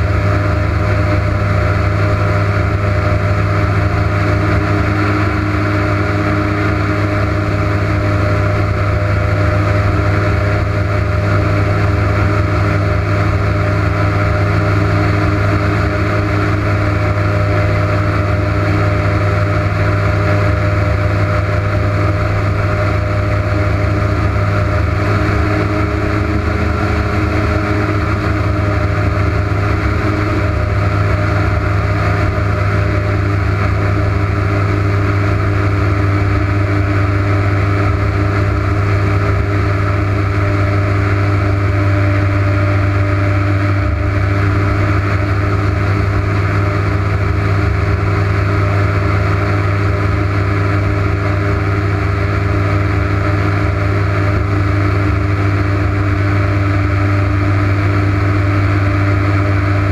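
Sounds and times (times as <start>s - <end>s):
airboat engine droning: 0.0s - 59.9s.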